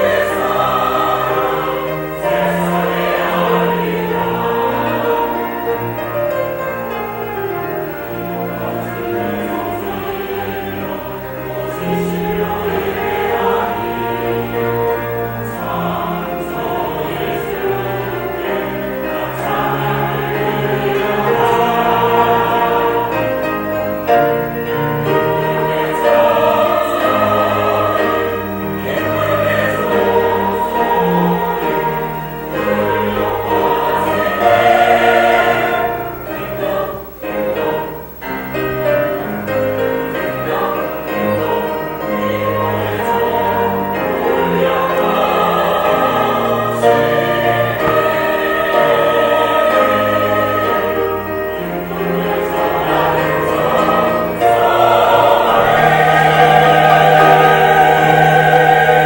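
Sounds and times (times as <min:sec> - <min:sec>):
choir singing sustained chords: 0:00.0 - 0:59.0.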